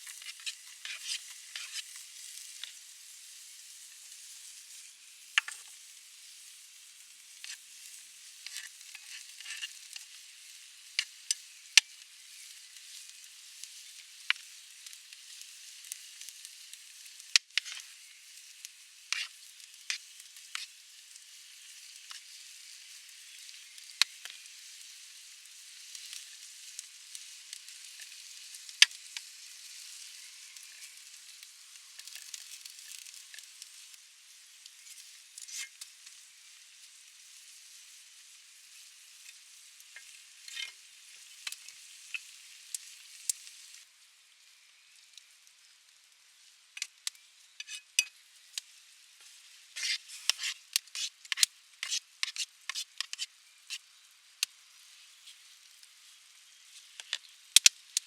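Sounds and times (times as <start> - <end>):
food frying in a pan: 0.0 - 58.0.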